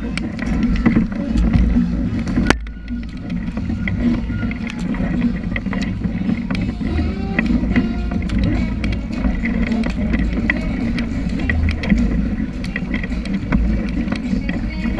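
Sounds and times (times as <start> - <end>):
wind rumble on microphone: 0.0 - 14.9.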